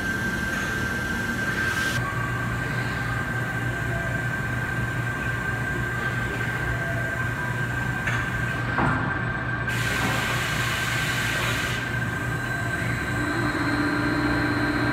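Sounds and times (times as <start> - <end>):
machine hum with high whine: 0.0 - 14.9.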